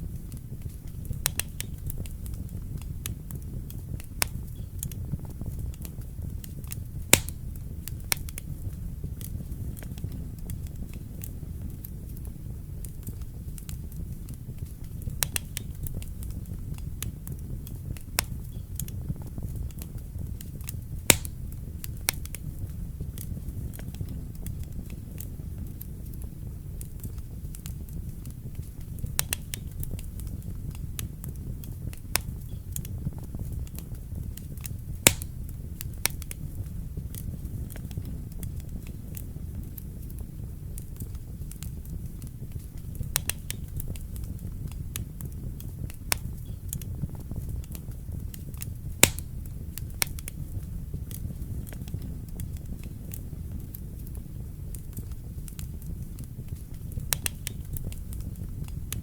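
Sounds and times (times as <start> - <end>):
fire crackling in fireplace: 0.0 - 59.0.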